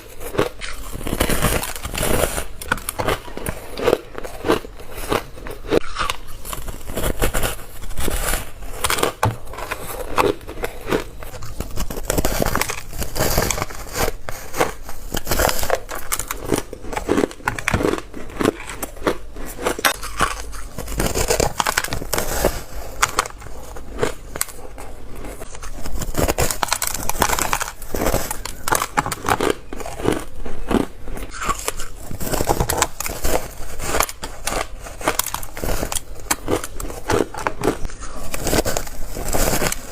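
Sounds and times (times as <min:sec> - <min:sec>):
crunching ice: 0:00.0 - 0:39.9.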